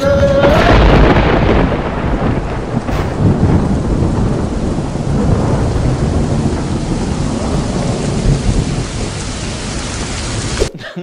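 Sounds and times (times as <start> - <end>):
low rolling thunder: 0.0 - 10.7
heavy rain: 0.0 - 11.0.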